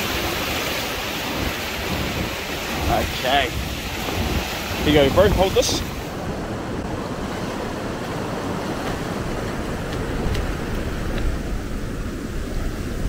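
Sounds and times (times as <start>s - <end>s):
surf breaking on a beach: 0.0s - 13.0s
wind rumbling on microphone: 0.0s - 13.0s.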